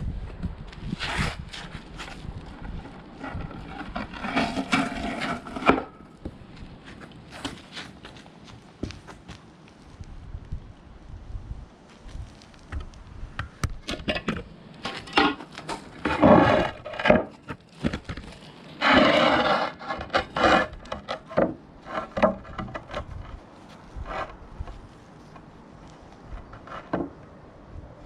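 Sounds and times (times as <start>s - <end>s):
paving slabs scraping: 0.2s - 10.0s, 11.8s - 27.7s.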